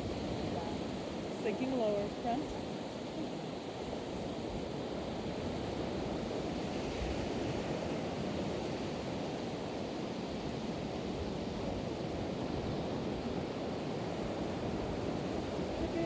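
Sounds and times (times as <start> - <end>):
waves washing on beach: 0.0 - 16.0
wind noise on microphone: 0.0 - 16.0.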